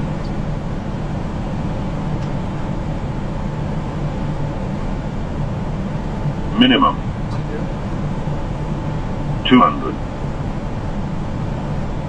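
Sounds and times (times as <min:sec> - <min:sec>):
low constant hum: 0:00.0 - 0:12.0.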